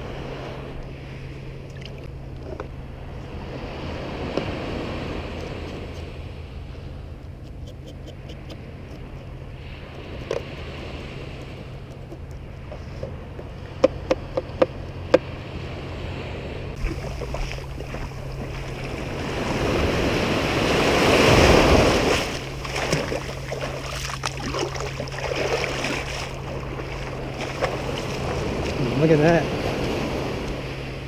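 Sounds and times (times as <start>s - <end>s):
surf washing in: 0.0s - 2.1s, 2.8s - 7.0s, 9.5s - 13.7s, 15.0s - 31.0s
water splashing and lapping: 0.0s - 31.0s.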